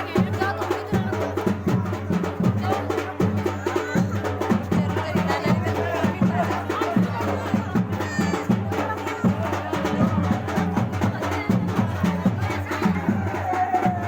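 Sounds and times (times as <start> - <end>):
drums beaten in quick rhythm: 0.0 - 14.0.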